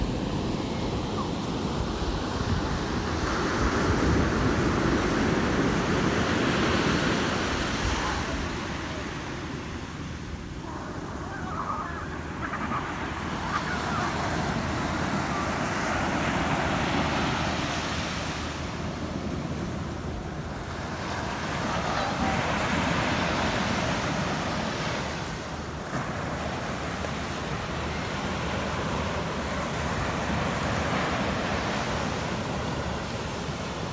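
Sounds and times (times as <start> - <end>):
ocean surf breaking on shore: 0.0 - 33.9.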